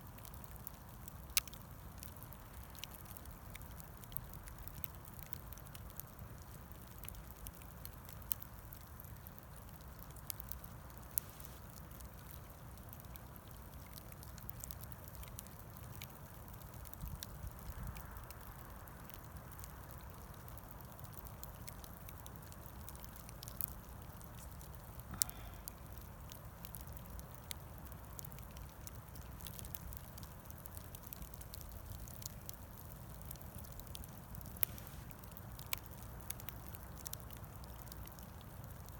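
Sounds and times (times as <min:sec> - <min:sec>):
bonfire crackling: 0:00.0 - 0:38.9
bonfire popping: 0:00.2 - 0:38.9.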